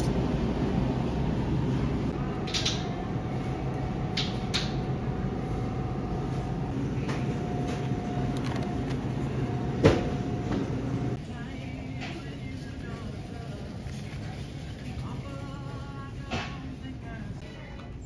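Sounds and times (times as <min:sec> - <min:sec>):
refrigerator and ventilation hum: 0:00.0 - 0:18.0.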